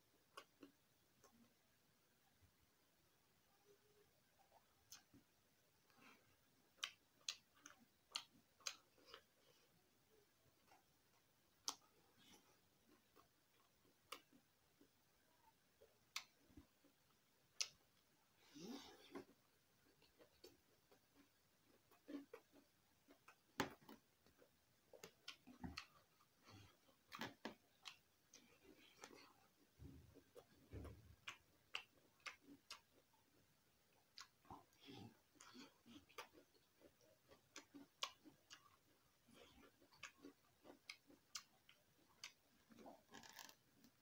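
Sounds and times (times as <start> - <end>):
person chewing with mouth clicks: 4.5 - 5.2, 5.9 - 9.7, 10.6 - 44.0.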